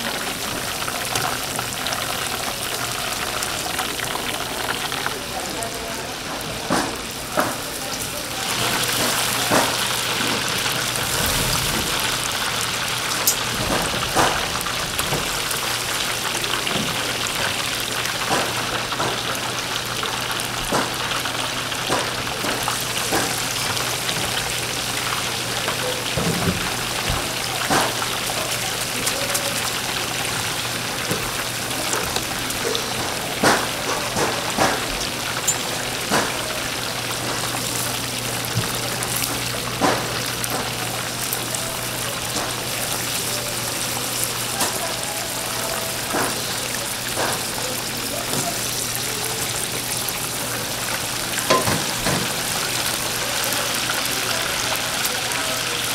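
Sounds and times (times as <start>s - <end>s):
chicken sizzling in hot oil: 0.0s - 55.9s.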